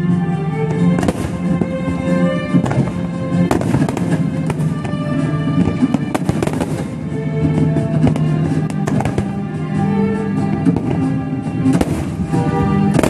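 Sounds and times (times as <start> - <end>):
music with sustained notes: 0.0 - 13.0
fireworks bangs: 0.7 - 9.6, 10.4 - 13.0.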